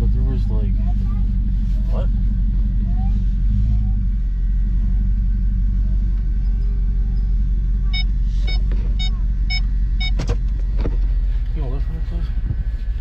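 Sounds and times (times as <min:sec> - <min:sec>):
vehicle cabin rumble: 0:00.0 - 0:13.0.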